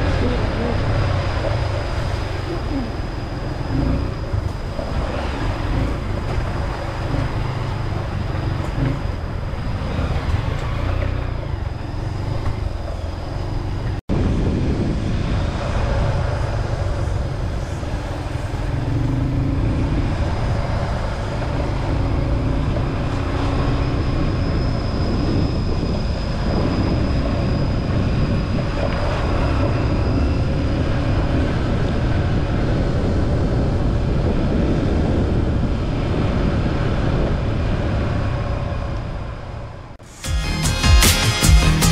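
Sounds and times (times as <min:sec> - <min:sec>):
wind noise: 0:00.0 - 0:40.1
dirt bike engines: 0:00.0 - 0:40.2.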